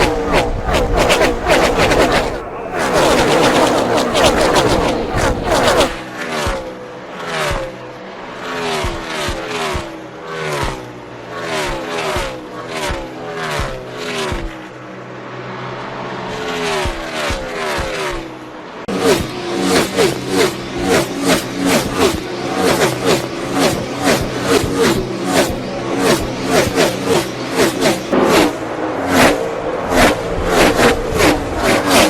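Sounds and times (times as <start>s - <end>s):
race cars passing by: 0.0s - 32.0s.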